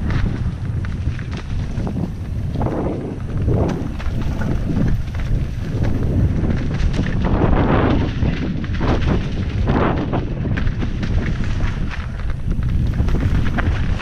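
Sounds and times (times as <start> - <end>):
bike and tyres rattling: 0.0 - 14.0
wind buffeting microphone: 0.0 - 14.0.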